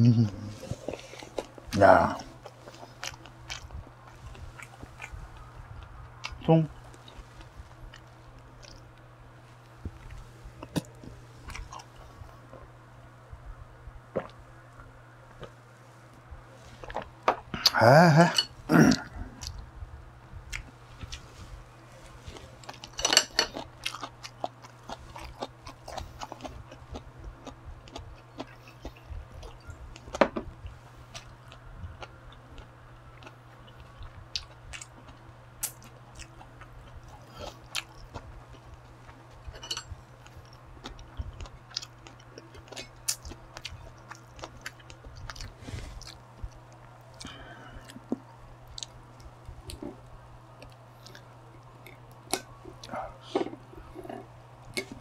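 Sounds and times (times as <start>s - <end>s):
low hum: 0.0s - 55.0s
wet chewing with crunches: 0.6s - 9.0s, 9.6s - 12.6s, 20.5s - 55.0s.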